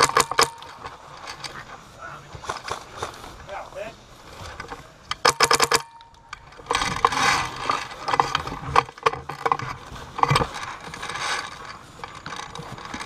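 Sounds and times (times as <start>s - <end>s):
rustling movement: 0.0s - 13.0s.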